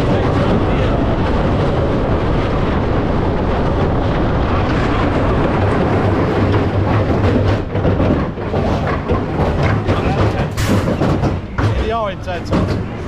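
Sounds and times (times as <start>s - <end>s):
roller coaster train rumbling: 0.0s - 13.0s
wind rushing over microphone: 0.0s - 13.0s.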